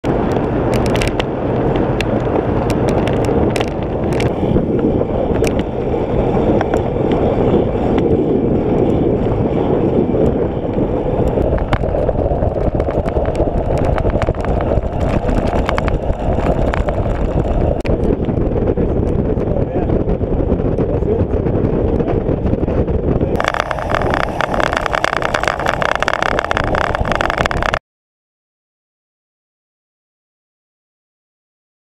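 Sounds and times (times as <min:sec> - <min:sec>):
bike tyre rumble on tarmac: 0:00.0 - 0:27.8
wind on microphone: 0:00.0 - 0:27.8.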